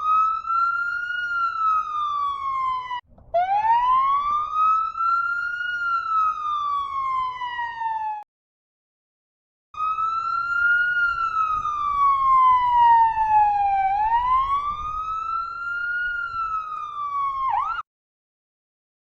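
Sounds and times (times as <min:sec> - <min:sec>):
emergency siren wailing: 0:00.0 - 0:08.3, 0:09.8 - 0:17.9.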